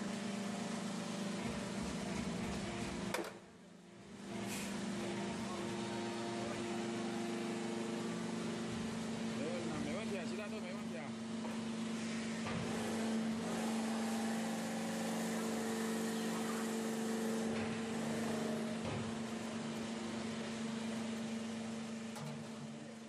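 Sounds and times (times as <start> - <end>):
press mechanical hum: 0.0 - 23.0.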